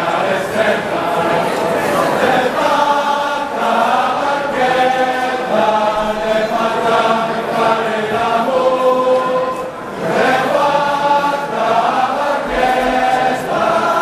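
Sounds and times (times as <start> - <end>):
group singing in harmony: 0.0 - 14.0.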